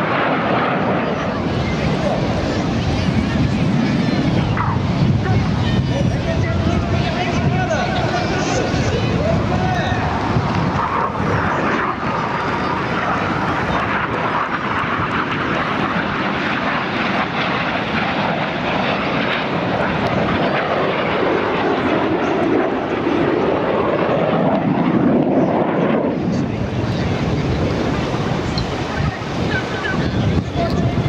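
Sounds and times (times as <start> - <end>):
jet engine noise: 0.0 - 31.0.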